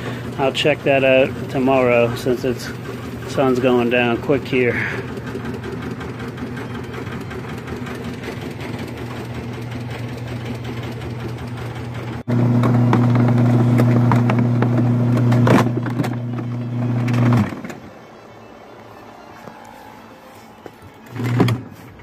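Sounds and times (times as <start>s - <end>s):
washing machine motor humming: 0.0s - 22.0s.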